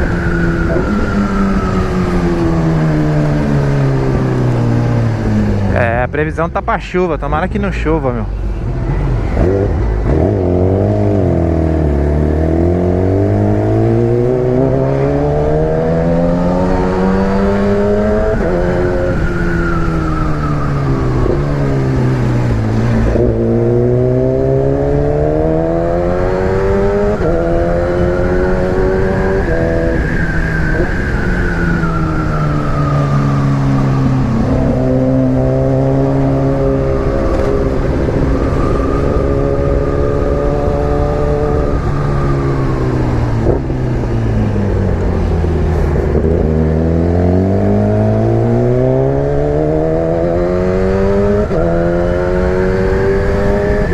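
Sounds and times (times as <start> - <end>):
wind noise: 8.4 - 53.9
motorcycle engine shifting gears: 8.6 - 53.9.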